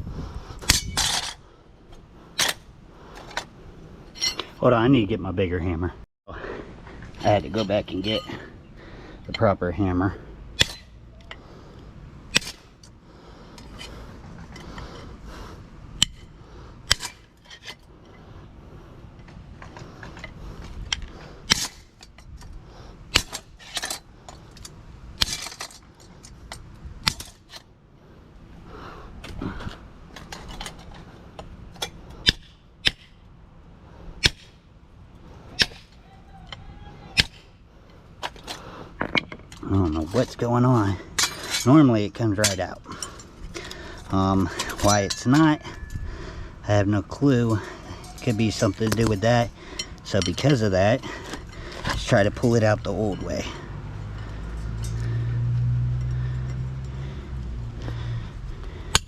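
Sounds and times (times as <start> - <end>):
metal scraping and handling: 0.6 - 5.0, 6.8 - 9.9, 10.5 - 27.8, 29.2 - 33.3, 34.2 - 57.2.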